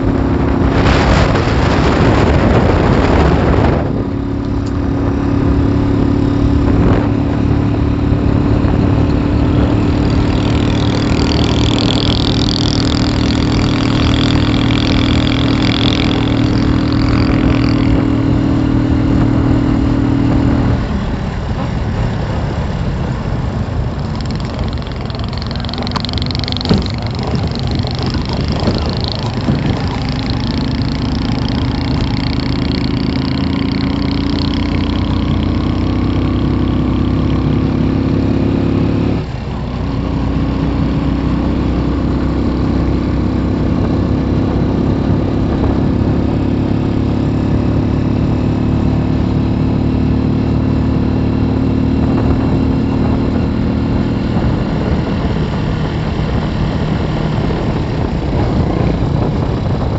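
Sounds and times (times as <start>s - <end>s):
vehicle engine accelerating: 0.0s - 59.9s
wind and road noise: 0.0s - 59.9s.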